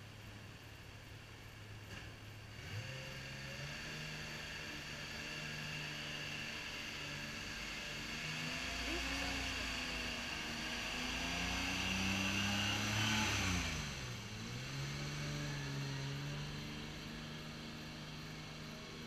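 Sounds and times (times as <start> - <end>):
truck engine idling and revving: 0.0 - 19.0.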